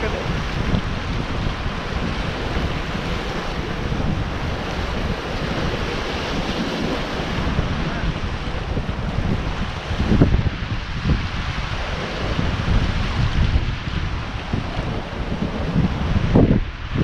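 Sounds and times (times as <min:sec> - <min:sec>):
sea waves washing against rocks: 0:00.0 - 0:17.0
wind buffeting microphone: 0:00.0 - 0:17.0.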